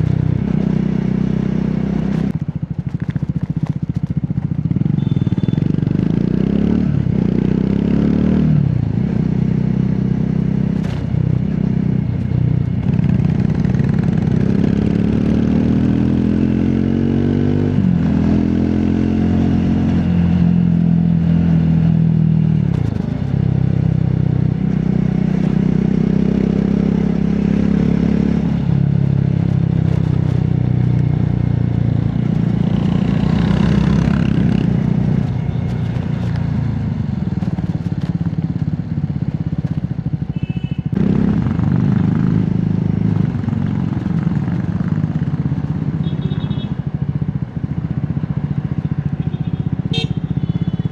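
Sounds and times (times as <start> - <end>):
motorcycle engine and exhaust: 0.0 - 50.9.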